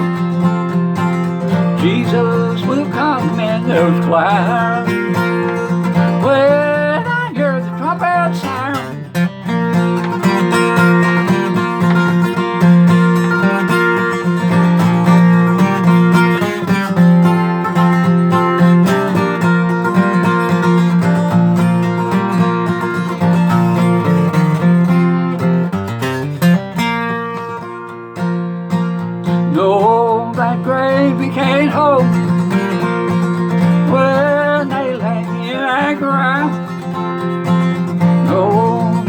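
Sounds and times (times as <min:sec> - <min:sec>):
acoustic guitar strumming chords: 0:00.0 - 0:39.0.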